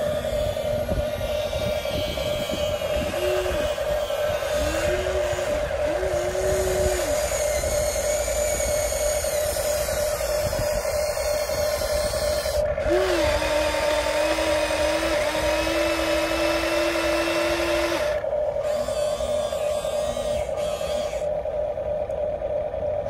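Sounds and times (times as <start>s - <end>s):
electric motors whining: 0.0s - 23.0s
lower motor whine: 0.0s - 23.0s.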